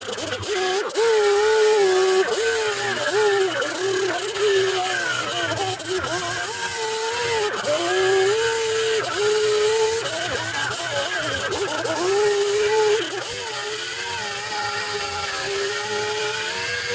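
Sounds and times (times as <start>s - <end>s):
electric sander whining: 0.0s - 16.9s.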